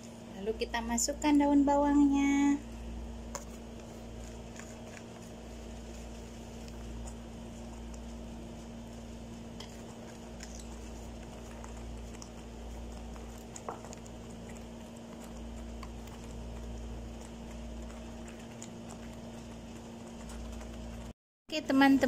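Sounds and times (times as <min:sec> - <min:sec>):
low hum: 0:00.0 - 0:22.0
thick filling simmering in a pan: 0:02.7 - 0:21.1.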